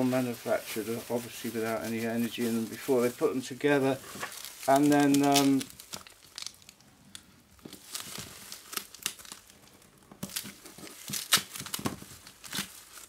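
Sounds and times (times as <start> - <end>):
foil pouch crinkling: 0.0 - 13.0
plastic gloves crinkling: 0.0 - 13.0.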